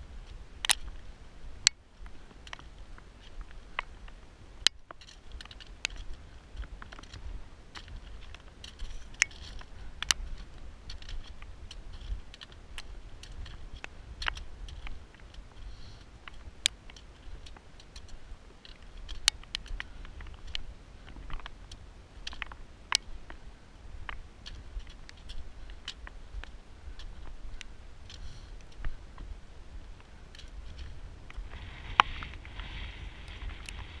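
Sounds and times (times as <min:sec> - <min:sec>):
wind rumble on microphone: 0:00.0 - 0:34.0
trekking poles clicking on stone: 0:00.1 - 0:34.0
boots crunching on scree: 0:02.0 - 0:34.0.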